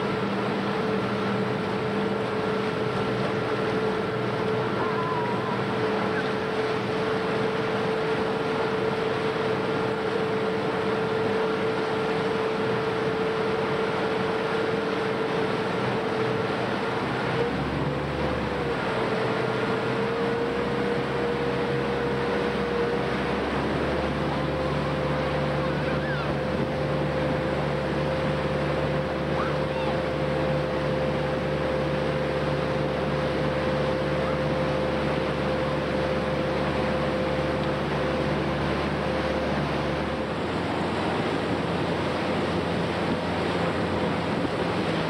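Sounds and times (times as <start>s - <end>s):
motorboat engine running: 0.0s - 45.0s
rushing water: 0.0s - 45.0s
wind: 0.0s - 45.0s.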